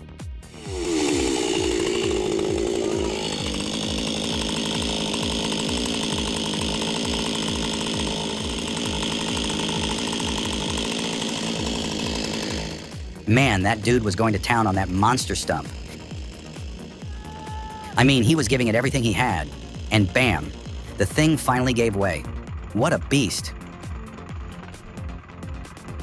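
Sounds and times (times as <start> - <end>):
chainsaw cutting stump: 0.4 - 26.0.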